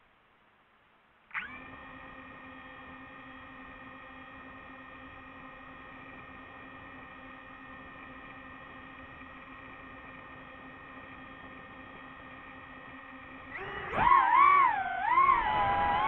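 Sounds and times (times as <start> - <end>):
drone motors humming: 1.3 - 16.0.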